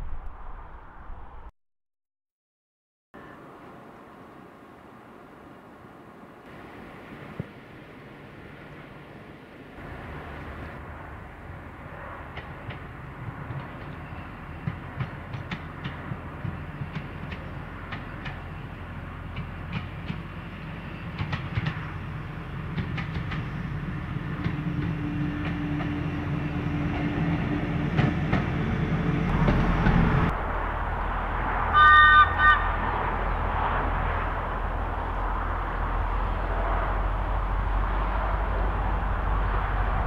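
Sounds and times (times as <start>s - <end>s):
railcar engine humming: 3.2s - 40.0s.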